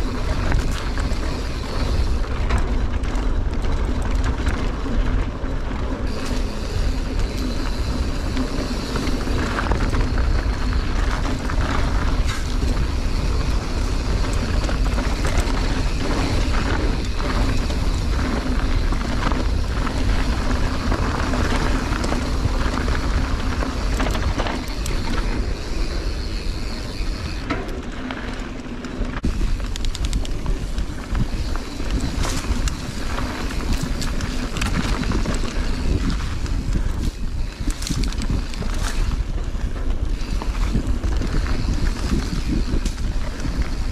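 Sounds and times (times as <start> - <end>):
bike clicking and rattling: 0.0 - 43.9
tyres rolling on dirt: 0.0 - 43.9
wind noise on microphone: 0.0 - 43.9.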